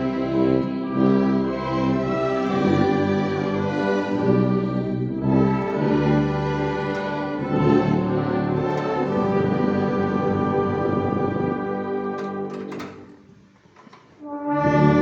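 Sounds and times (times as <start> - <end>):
tuba bass line: 0.0 - 12.5, 14.4 - 15.0
brass and strings playing a hymn: 0.0 - 13.2, 14.2 - 15.0.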